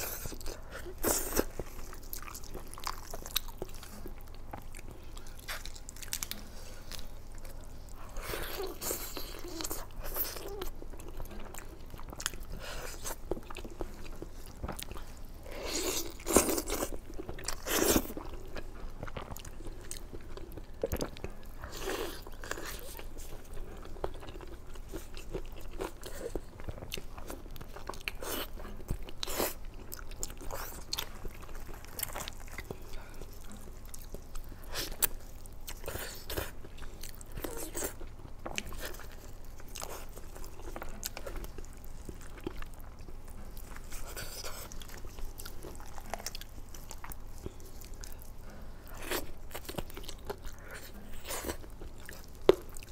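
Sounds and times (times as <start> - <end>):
biting and chewing crunches: 0.0 - 52.9.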